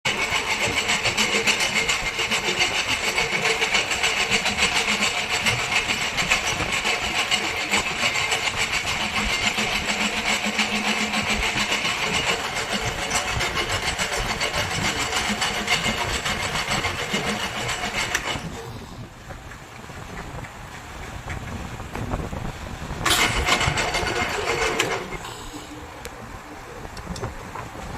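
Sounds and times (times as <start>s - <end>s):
machinery clattering: 0.1s - 27.9s.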